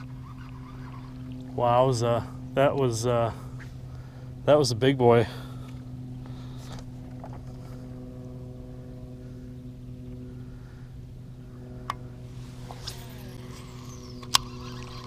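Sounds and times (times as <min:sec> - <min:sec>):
electric motor humming: 0:00.0 - 0:04.4, 0:05.5 - 0:15.0.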